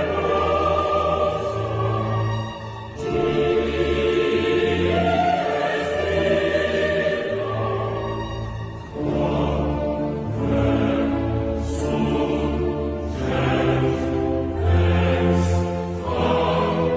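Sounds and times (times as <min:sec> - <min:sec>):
operatic choral singing with orchestra: 0:00.0 - 0:16.9.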